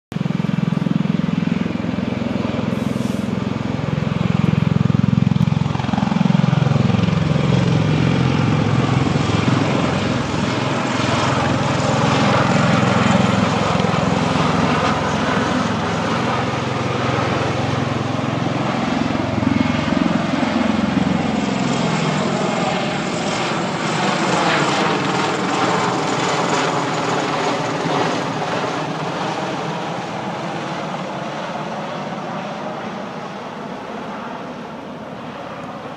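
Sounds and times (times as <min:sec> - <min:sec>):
aircraft rotor and engine drone: 0:00.1 - 0:35.9.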